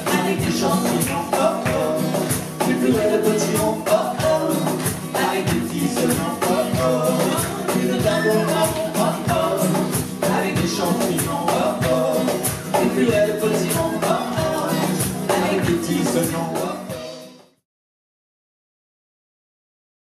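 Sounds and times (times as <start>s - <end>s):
acoustic guitar strumming: 0.0s - 17.4s
percussion beat: 0.0s - 17.6s.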